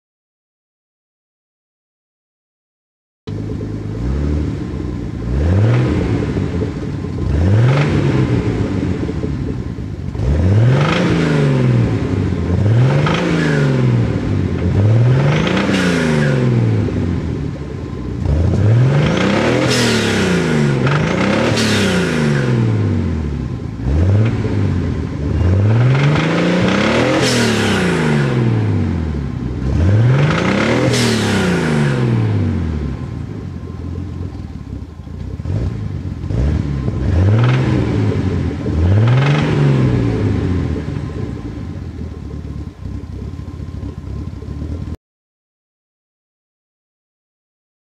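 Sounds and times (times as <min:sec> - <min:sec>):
car engine revving: 0:03.3 - 0:45.0.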